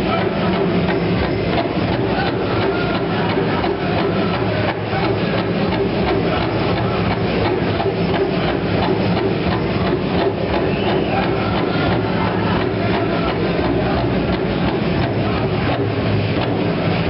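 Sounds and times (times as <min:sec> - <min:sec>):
drum beating steady rhythm: 0:00.0 - 0:17.0
large crowd noise: 0:00.0 - 0:17.0.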